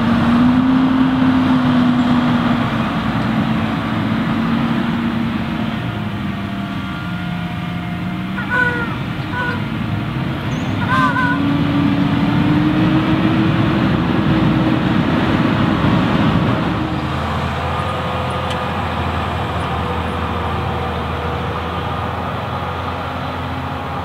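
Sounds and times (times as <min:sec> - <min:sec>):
tractor diesel engines droning: 0:00.0 - 0:24.0.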